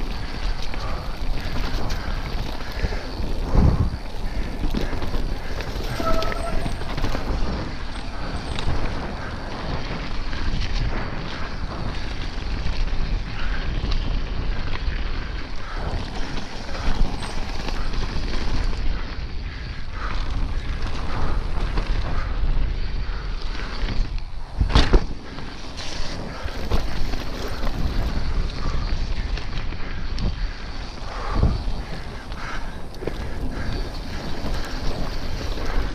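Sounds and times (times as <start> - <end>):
bike rattling on dirt trail: 0.0 - 35.9
wind buffeting microphone: 0.0 - 35.9.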